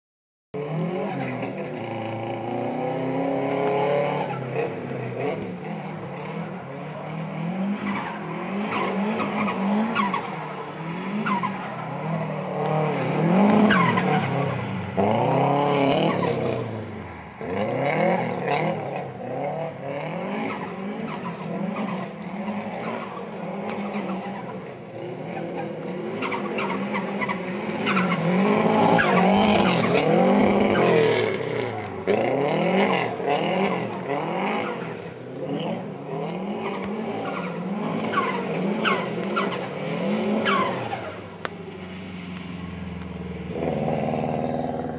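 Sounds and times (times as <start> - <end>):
car engine revving: 0.6 - 44.9
tyres skidding: 0.6 - 44.9.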